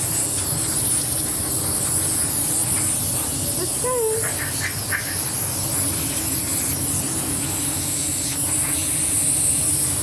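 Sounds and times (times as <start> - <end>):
compressed air hissing: 0.0 - 10.0
steady low hum: 0.0 - 10.0.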